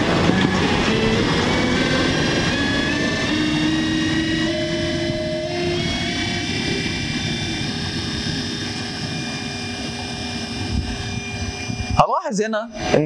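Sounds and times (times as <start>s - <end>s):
electric motor whine: 0.0s - 12.1s, 12.7s - 13.0s.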